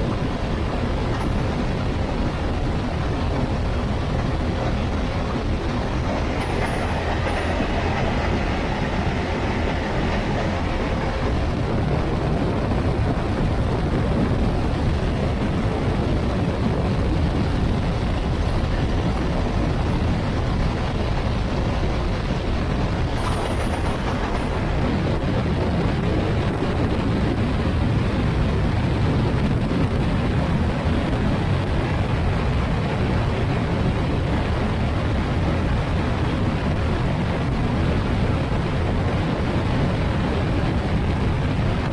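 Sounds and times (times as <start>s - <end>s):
road noise: 0.0s - 41.9s
wind rushing: 0.0s - 41.9s.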